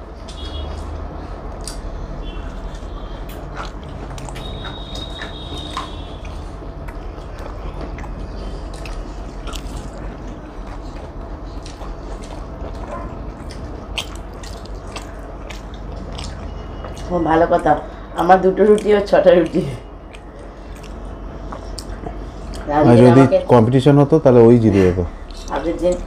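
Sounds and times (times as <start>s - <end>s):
low background hum: 0.0s - 26.0s
people chewing food: 0.0s - 26.0s.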